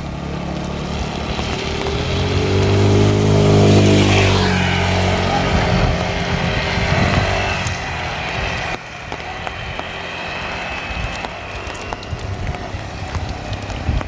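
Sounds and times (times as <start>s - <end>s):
heavy rain: 0.0s - 14.0s
vehicle passing by: 0.0s - 14.0s.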